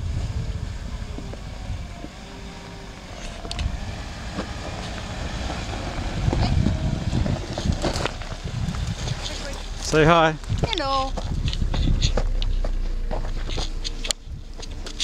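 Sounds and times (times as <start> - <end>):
off-road vehicle engine at low revs: 0.0 - 15.0
wind rumbling on microphone: 0.0 - 15.0
stones clicking under tyres: 2.9 - 15.0.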